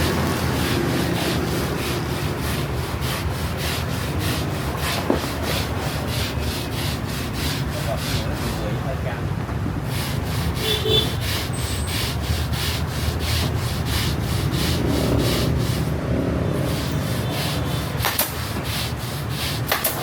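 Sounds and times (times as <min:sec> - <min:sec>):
back-and-forth sanding strokes: 0:00.0 - 0:09.0, 0:09.8 - 0:20.0.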